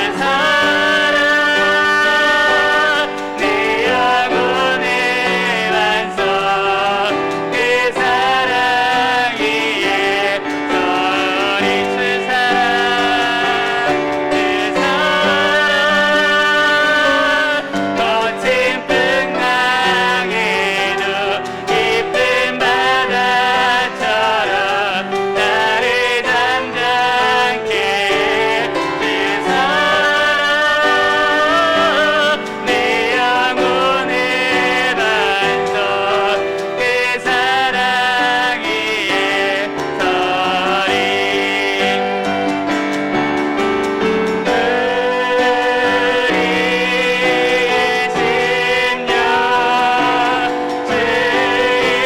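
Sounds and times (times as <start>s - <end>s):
group singing praise song: 0.0s - 52.0s
piano accompaniment: 0.0s - 52.0s.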